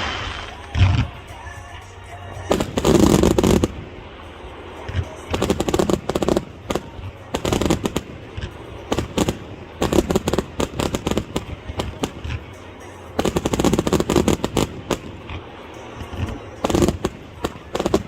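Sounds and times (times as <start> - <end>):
fireworks crackling bangs: 0.0 - 18.0.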